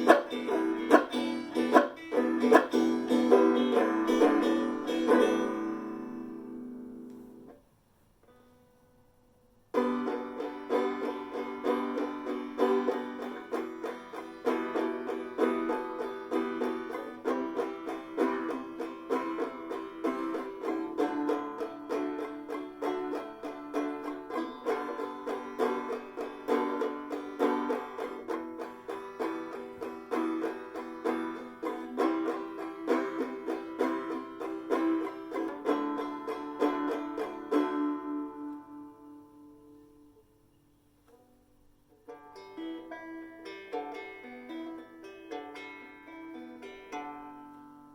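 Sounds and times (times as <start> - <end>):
banjo plucked notes: 0.0 - 47.9.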